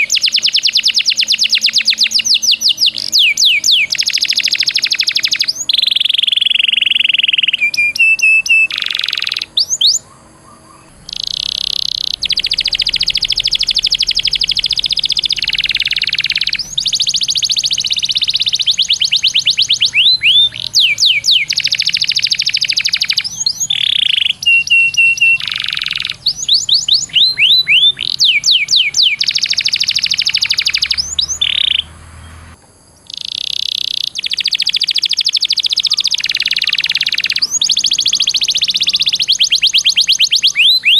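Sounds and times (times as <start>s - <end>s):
songbird trills and whistles: 0.0s - 40.9s.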